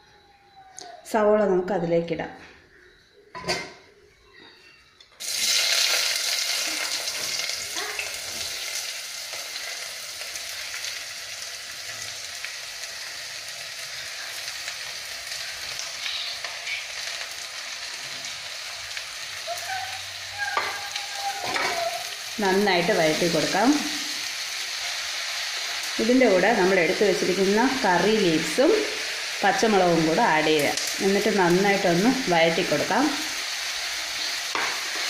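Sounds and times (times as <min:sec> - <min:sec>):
onions sizzling in hot oil: 0:05.2 - 0:35.0.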